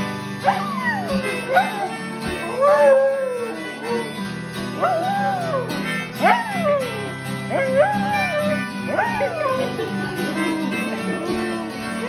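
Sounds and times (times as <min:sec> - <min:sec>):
acoustic guitar music: 0:00.0 - 0:12.0
dog howling: 0:00.4 - 0:04.2, 0:04.8 - 0:12.0.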